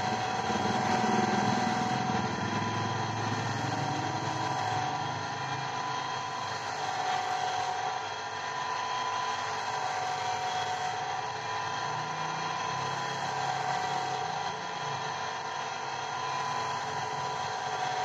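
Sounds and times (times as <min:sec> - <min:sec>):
lapidary wheel motor whine: 0:00.0 - 0:18.0.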